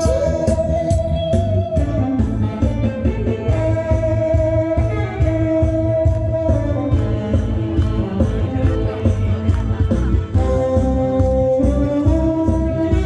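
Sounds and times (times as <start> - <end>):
backing track drum beat: 0.0 - 13.0
tenor saxophone melody: 1.6 - 13.0.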